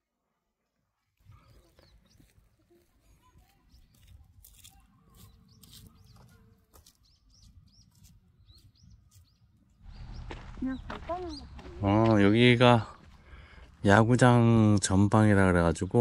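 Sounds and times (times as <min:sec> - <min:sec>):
small birds chirping: 0:01.2 - 0:16.0.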